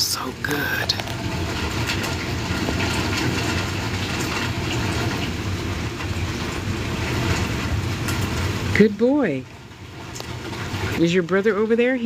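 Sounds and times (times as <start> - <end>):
rain falling steadily: 0.0 - 12.0.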